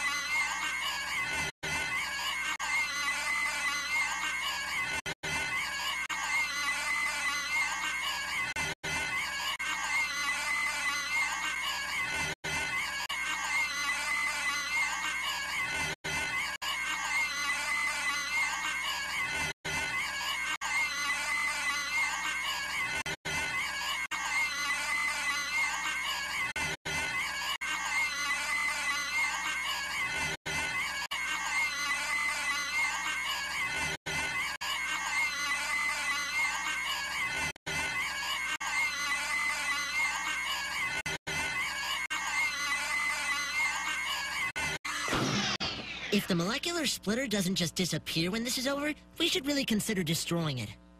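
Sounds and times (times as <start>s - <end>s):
cartoon pig-like shrieking: 0.0s - 45.6s.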